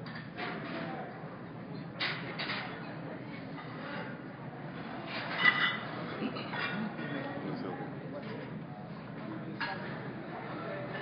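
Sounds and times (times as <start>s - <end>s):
indoor hall background noise: 0.0s - 11.0s.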